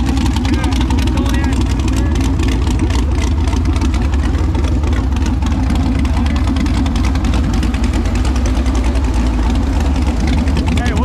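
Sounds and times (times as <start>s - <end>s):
engine running loud and low: 0.0s - 11.0s.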